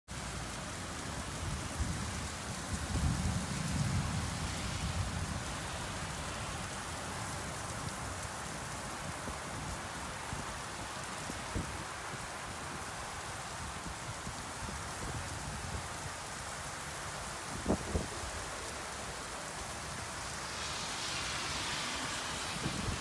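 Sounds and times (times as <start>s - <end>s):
heavy rain pouring: 0.1s - 23.0s.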